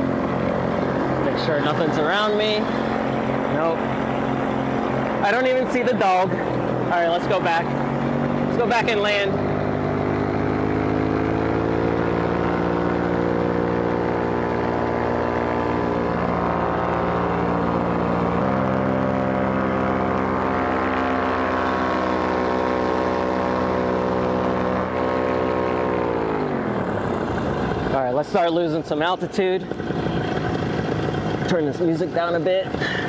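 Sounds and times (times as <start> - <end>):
paramotor engine running: 0.0 - 33.0.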